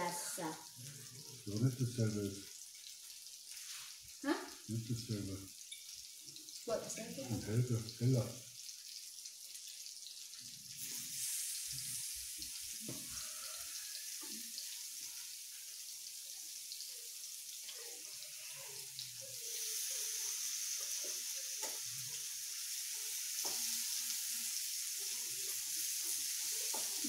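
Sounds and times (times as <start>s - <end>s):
beef sizzling on grill: 0.0s - 27.0s.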